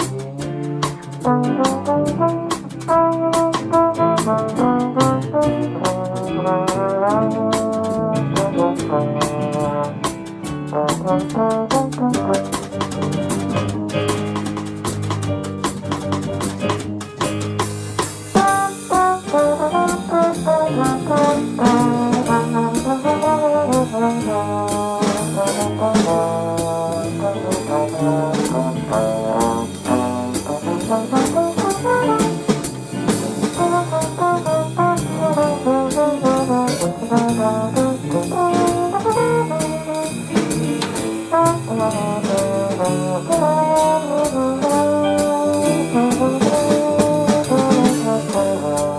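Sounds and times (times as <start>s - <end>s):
trombone melody: 0.0s - 14.9s, 17.6s - 48.9s
drums: 0.0s - 48.9s
piano: 0.0s - 48.9s
upright bass: 0.0s - 48.9s.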